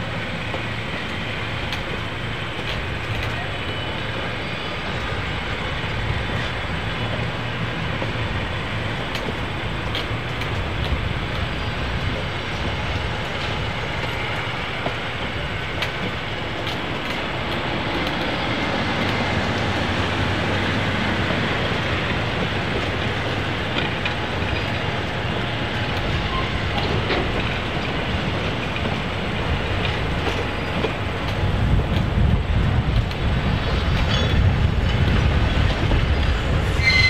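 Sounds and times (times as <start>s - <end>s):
train wheels on rail: 0.0s - 37.0s.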